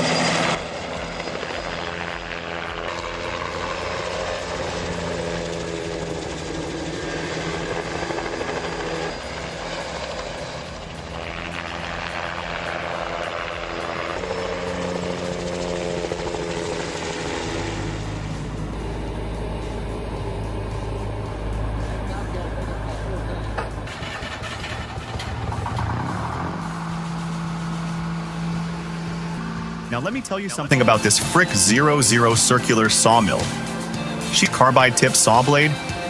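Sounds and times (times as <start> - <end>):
helicopter drone: 0.0 - 36.0.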